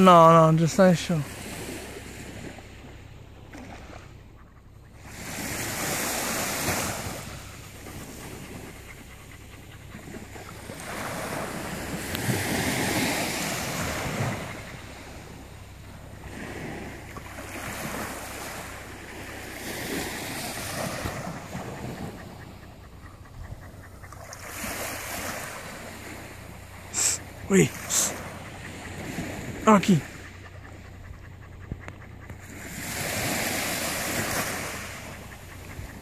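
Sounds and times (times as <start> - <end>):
small waves breaking on beach: 0.0 - 23.1, 24.1 - 30.9, 32.3 - 36.0.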